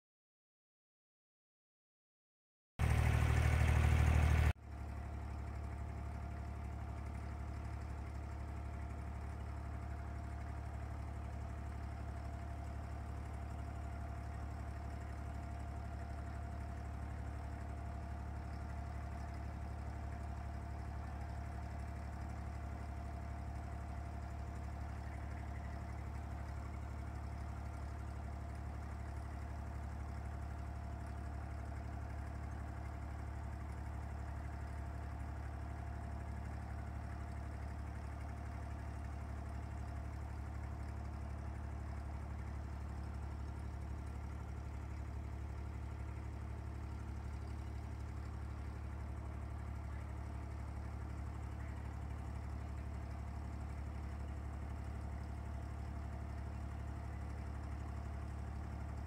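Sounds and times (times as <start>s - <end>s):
boat diesel engine droning: 2.8s - 59.0s.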